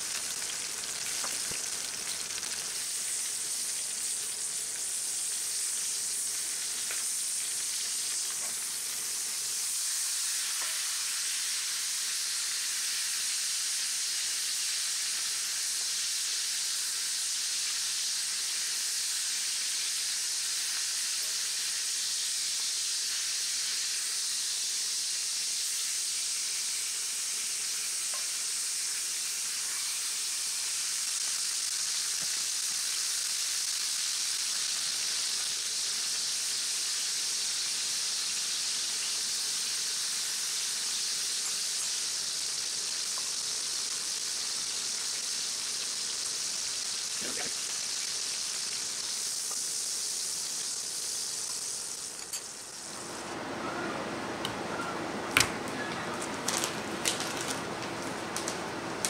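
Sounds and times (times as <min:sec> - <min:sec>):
steaks sizzling in skillet: 0:00.0 - 0:53.4.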